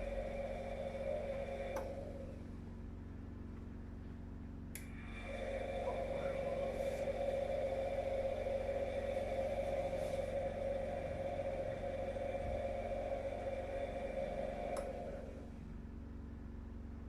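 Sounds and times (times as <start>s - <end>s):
petrol generator droning: 0.0s - 17.0s
washing machine spin whine: 0.0s - 17.0s.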